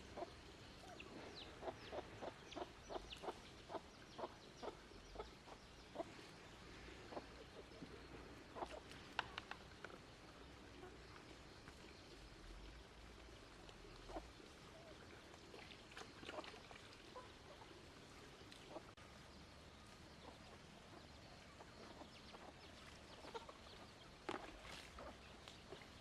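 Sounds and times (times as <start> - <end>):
chickens clucking faintly: 0.0 - 26.0.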